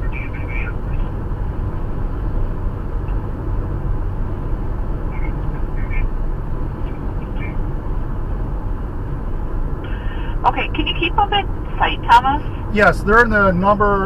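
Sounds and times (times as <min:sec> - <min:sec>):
car cabin road and engine noise: 0:00.0 - 0:14.0.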